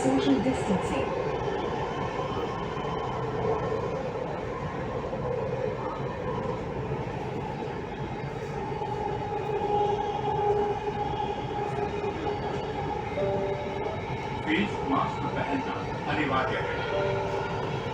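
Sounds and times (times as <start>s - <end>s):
train rumble inside coach: 0.0s - 17.9s.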